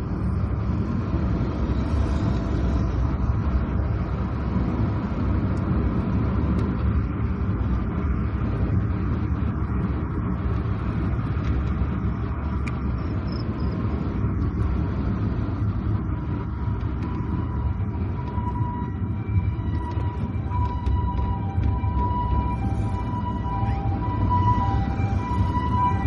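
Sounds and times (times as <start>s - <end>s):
car engine rumble: 0.0s - 26.0s
tyre noise on wet road: 0.0s - 26.0s.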